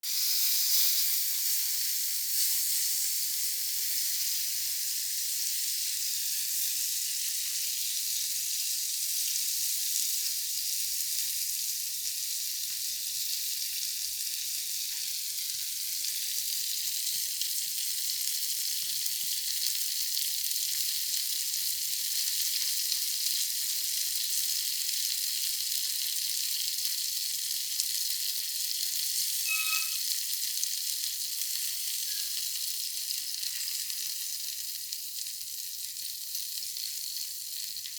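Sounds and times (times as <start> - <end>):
shrimp sizzling in a pan: 0.0 - 37.9.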